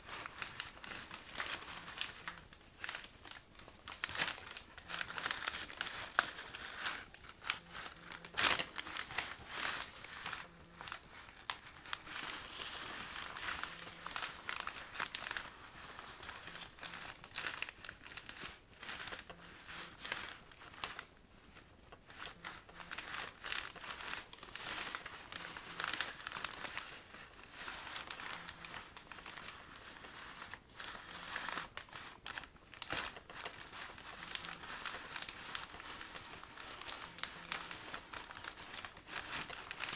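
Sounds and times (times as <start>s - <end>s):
paper bags rustling: 0.0s - 39.9s.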